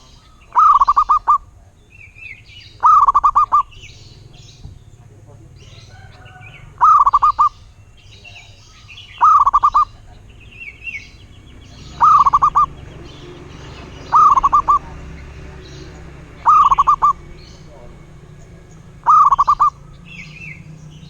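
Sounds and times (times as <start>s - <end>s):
dove cooing: 0.0s - 21.0s
small birds chirping: 0.0s - 21.0s.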